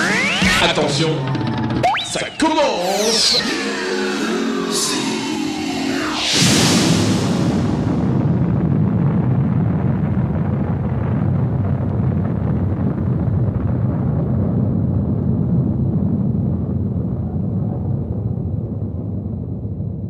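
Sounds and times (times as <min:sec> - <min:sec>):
deep rumbling sound effect: 0:00.0 - 0:20.0.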